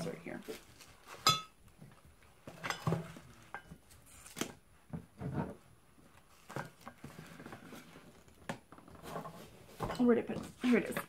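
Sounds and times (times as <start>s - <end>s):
items being handled: 0.0s - 11.0s
knocks and rustles: 0.4s - 11.0s.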